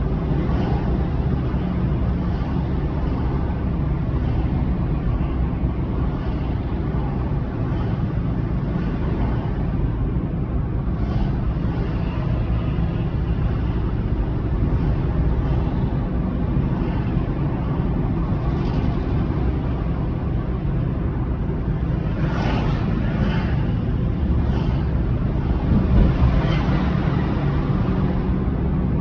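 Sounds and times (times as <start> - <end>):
car engine rumble: 0.0 - 29.0
road noise: 0.0 - 29.0.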